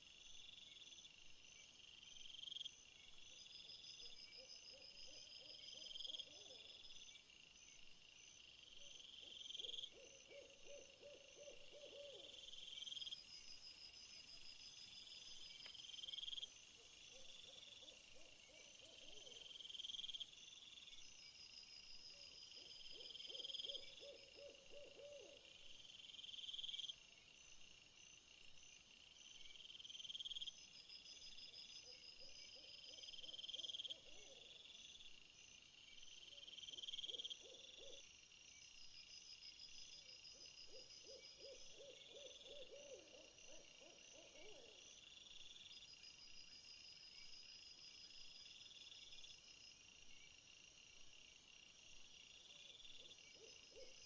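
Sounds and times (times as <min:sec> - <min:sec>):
insect chorus: 0:00.0 - 0:54.0.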